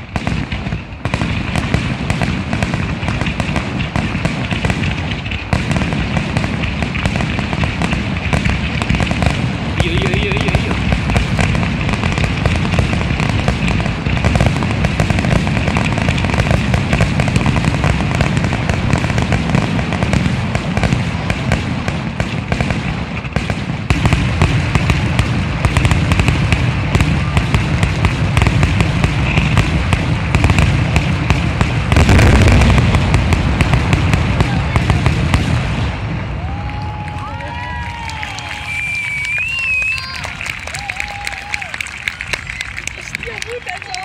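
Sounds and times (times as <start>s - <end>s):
fireworks banging and crackling: 0.0s - 44.0s.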